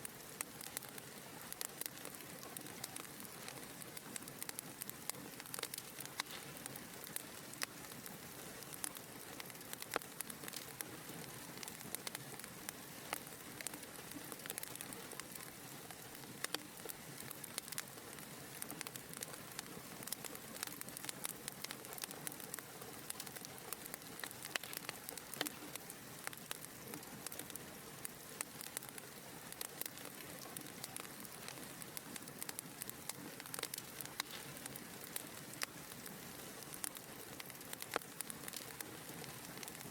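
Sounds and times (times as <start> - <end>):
fire crackling and popping: 0.0 - 39.9
wood fire hissing: 0.0 - 39.9.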